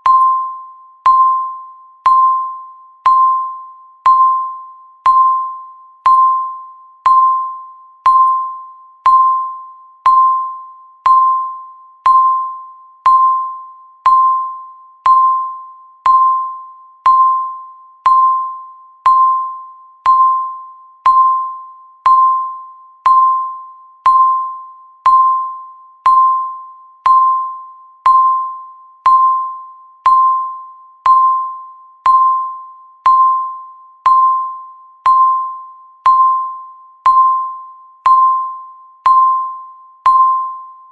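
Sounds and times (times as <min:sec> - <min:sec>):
timer beeping: 0:00.0 - 0:40.9.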